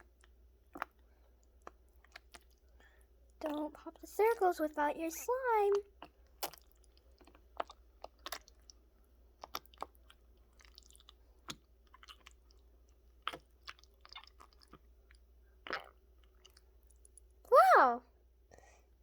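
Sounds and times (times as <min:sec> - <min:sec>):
slime squelching and popping: 0:00.0 - 0:02.7, 0:03.4 - 0:17.3.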